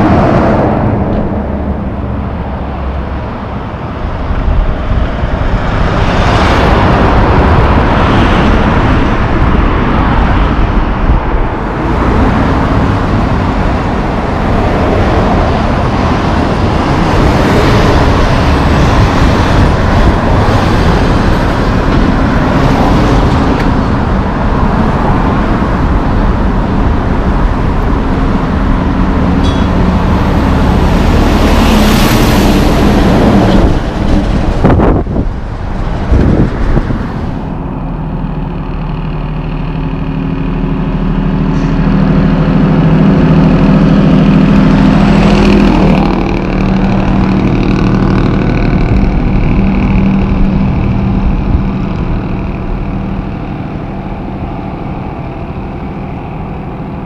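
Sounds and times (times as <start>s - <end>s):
city street traffic: 0.0s - 57.0s
diesel trucks passing: 0.0s - 57.0s.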